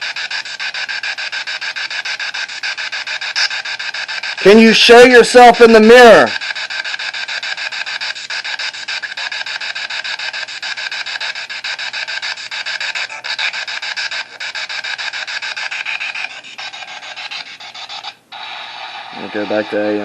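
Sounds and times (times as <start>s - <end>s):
radio static stuttering: 0.0s - 16.8s, 17.9s - 20.0s.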